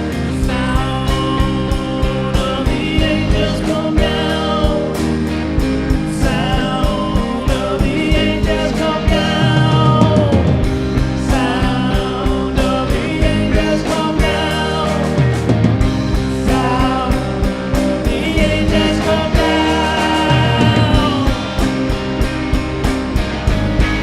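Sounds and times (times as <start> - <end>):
bass and guitars: 0.0 - 24.0
drum beat: 0.0 - 24.0.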